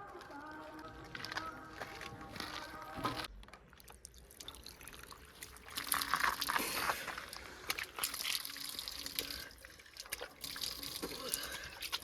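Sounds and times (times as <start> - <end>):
water pouring and splashing: 1.2 - 12.0.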